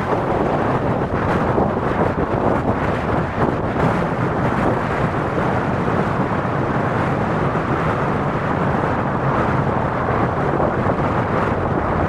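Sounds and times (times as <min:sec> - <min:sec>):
jet engines roaring at takeoff: 0:00.0 - 0:12.0
wind rumbling on microphone: 0:00.0 - 0:12.0.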